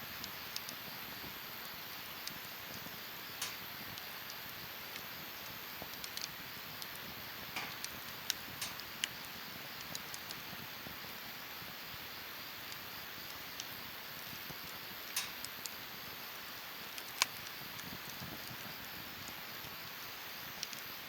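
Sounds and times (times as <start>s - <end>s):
wood fire crackling and popping: 0.1s - 21.0s.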